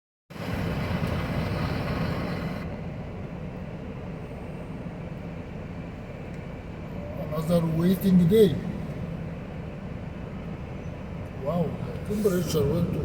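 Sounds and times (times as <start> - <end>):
truck engine idling: 0.4 - 13.0.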